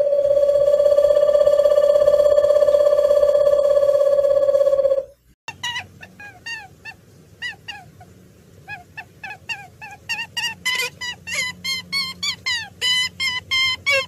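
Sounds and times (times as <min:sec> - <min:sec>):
animal high-pitched calls: 0:00.0 - 0:14.0.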